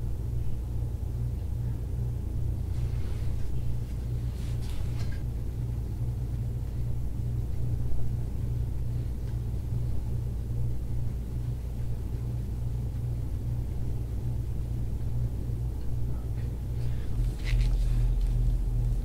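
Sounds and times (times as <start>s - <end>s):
steady low pulsing hum: 0.0s - 19.0s.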